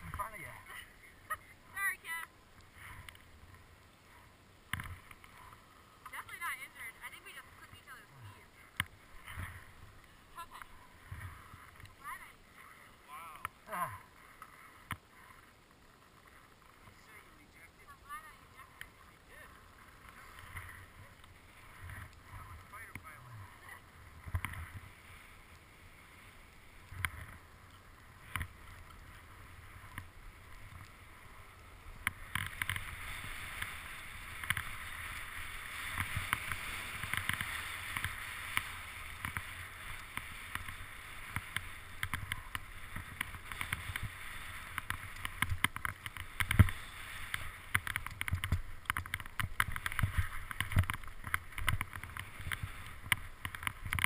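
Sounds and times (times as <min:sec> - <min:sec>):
skis scraping over snow: 0:00.0 - 0:54.0.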